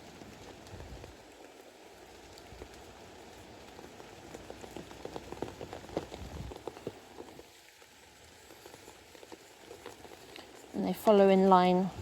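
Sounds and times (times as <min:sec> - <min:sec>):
heavy rain with big drops: 0:00.0 - 0:12.0.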